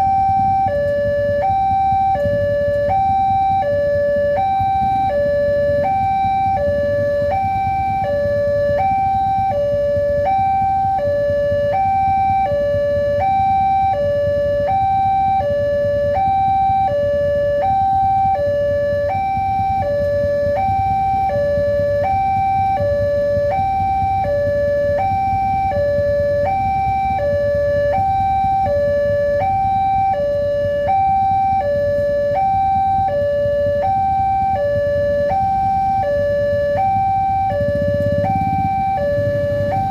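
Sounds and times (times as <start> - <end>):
low steady rumble: 0.0 - 39.9
two-tone crossing alarm: 0.0 - 39.9.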